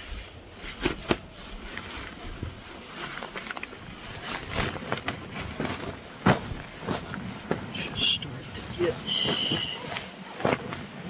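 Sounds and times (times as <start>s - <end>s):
clothing rustling: 0.0s - 11.0s.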